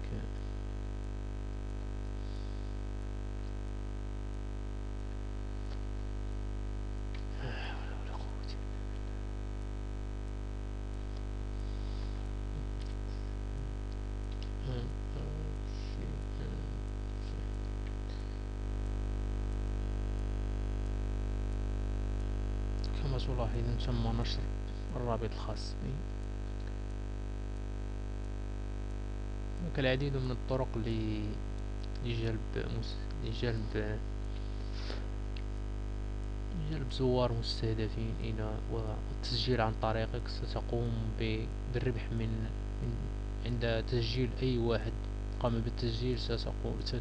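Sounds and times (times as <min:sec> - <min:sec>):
mains hum: 0:00.0 - 0:47.0.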